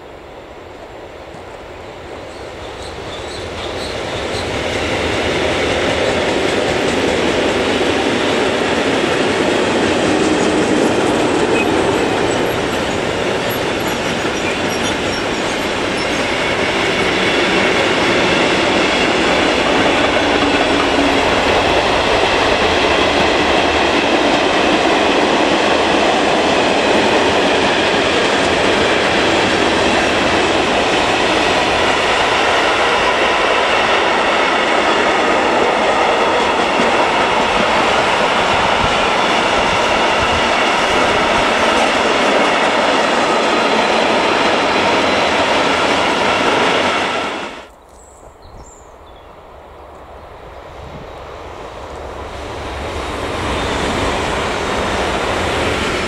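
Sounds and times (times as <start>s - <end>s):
freight train wheels rumbling: 0.0s - 56.0s
clickety-clack over rail joints: 1.3s - 47.2s.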